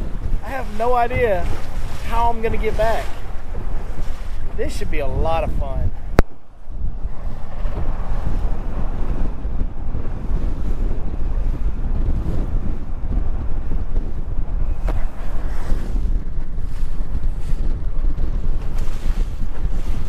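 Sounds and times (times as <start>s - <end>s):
choppy water: 0.0s - 20.0s
wind buffeting microphone: 0.0s - 20.0s.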